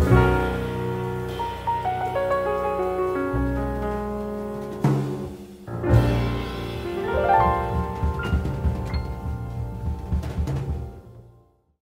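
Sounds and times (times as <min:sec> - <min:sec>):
sustained bass: 0:00.0 - 0:11.2
piano melody: 0:00.0 - 0:11.6.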